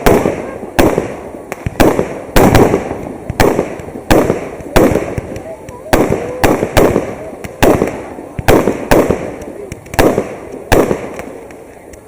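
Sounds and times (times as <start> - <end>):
fireworks bangs with rumbling echo: 0.0 - 12.0.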